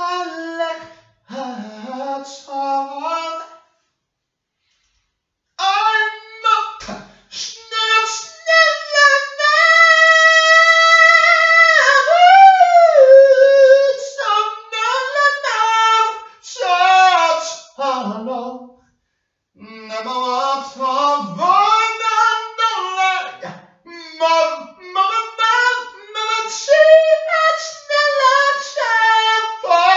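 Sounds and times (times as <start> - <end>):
high voice singing: 0.0 - 3.5, 5.6 - 18.6, 19.6 - 29.9.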